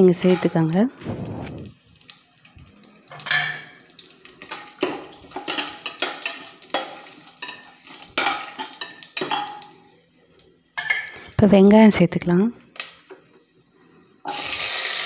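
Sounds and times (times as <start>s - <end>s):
oil sizzling: 0.0s - 11.4s, 13.0s - 15.0s.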